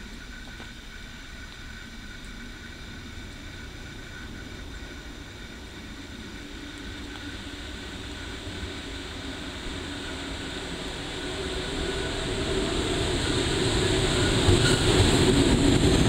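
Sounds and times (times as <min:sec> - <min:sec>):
faint drone of steady tones: 0:00.0 - 0:16.0
train rumble: 0:00.0 - 0:16.0.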